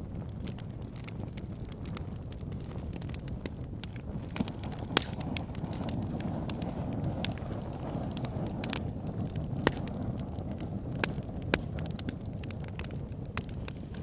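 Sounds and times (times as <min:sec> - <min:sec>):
fire crackling: 0:00.0 - 0:14.0
fire flames rumbling: 0:00.0 - 0:14.0
fire popping: 0:00.0 - 0:14.0.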